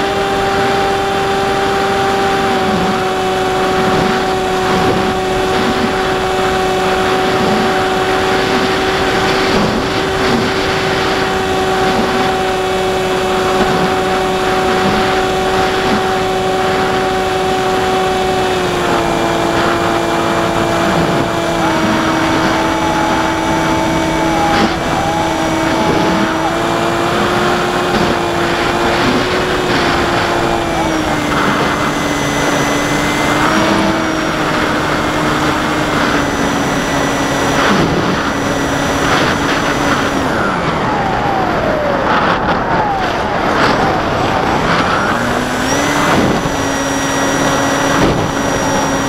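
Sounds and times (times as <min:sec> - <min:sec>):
electric motor and propeller whining: 0:00.0 - 0:49.0.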